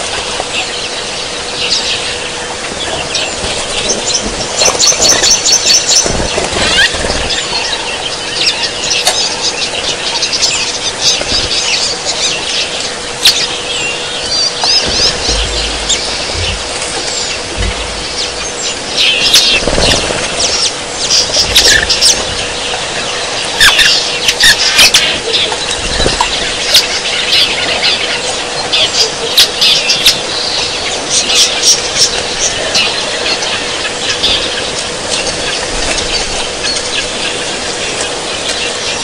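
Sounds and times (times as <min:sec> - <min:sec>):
birds chirping and trilling: 0:00.0 - 0:39.0
faint steady hum: 0:00.0 - 0:39.0.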